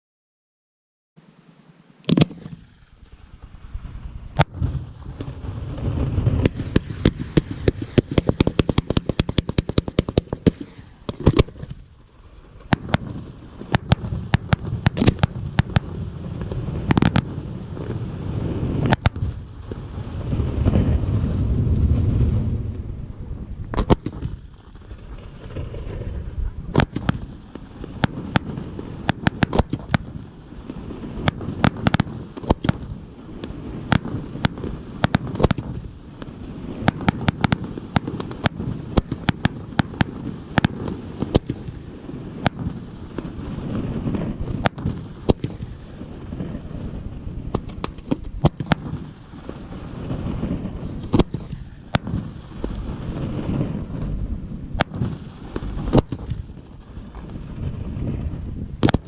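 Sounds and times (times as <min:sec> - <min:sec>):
fireworks bangs and cracks: 0:02.0 - 0:59.0.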